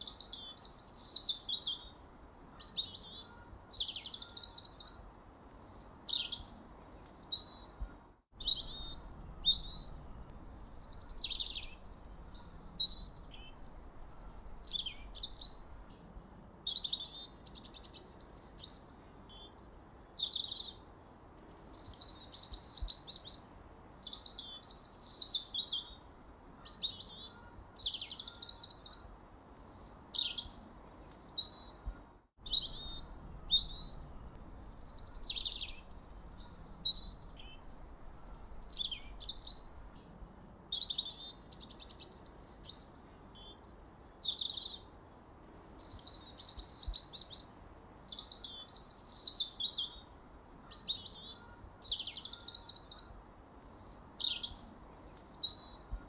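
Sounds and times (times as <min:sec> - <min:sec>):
faint steady background hiss: 0:00.0 - 0:56.0
songbirds chirping and trilling: 0:00.0 - 0:56.0.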